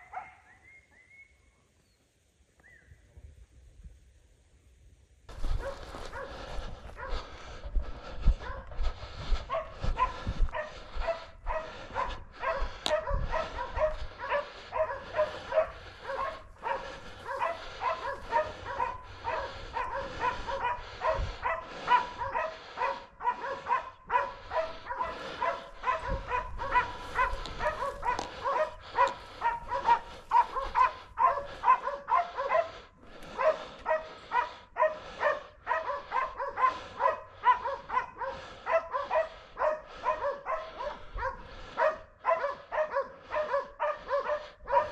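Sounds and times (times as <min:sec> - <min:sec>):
dogs barking: 0:00.0 - 0:00.6, 0:05.3 - 0:44.9.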